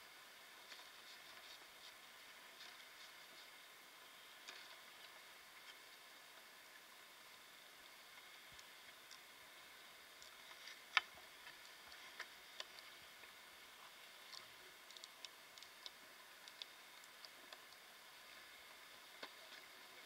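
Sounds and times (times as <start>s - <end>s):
faint hiss: 0.0s - 20.0s
small clicks and ticks: 0.4s - 20.0s.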